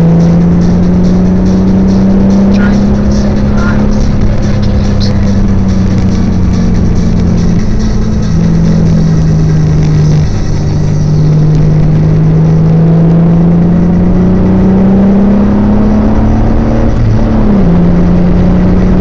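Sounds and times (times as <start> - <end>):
car engine: 0.0 - 19.0
road noise: 0.0 - 19.0.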